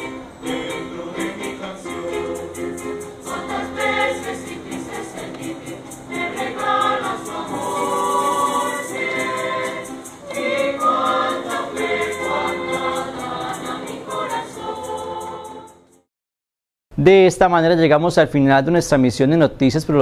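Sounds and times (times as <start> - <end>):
choir singing in harmony: 0.0 - 16.1.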